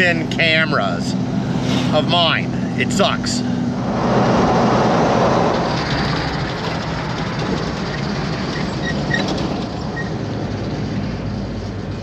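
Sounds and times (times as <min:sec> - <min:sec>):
engine and road noise inside car: 0:00.0 - 0:12.0.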